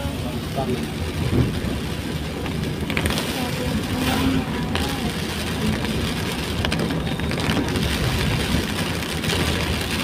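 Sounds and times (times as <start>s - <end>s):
car engine and tyres rumbling: 0.0s - 10.0s
rain hitting car roof: 0.0s - 10.0s.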